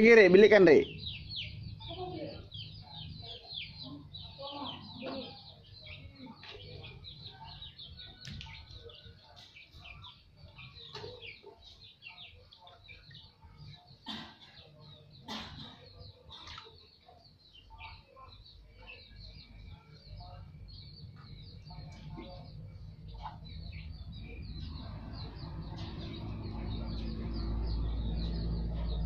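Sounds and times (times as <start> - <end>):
chickens clucking: 0.0 - 29.0
small birds chirping: 0.0 - 29.0.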